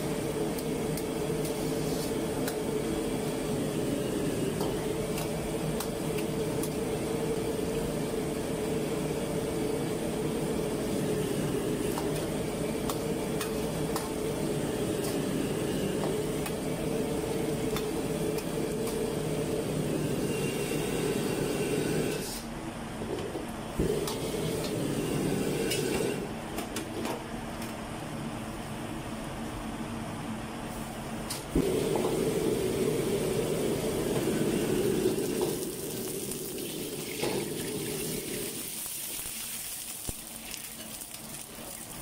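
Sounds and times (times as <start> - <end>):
water boiling: 0.0 - 22.4, 23.8 - 26.3, 31.5 - 42.0
gas burner roaring: 0.0 - 27.1, 30.7 - 42.0.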